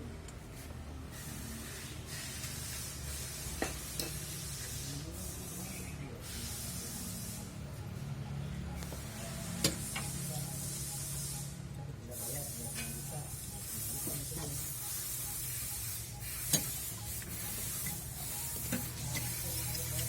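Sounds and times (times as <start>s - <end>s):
hissing spray: 1.1s - 7.6s, 8.9s - 11.6s, 12.2s - 20.0s.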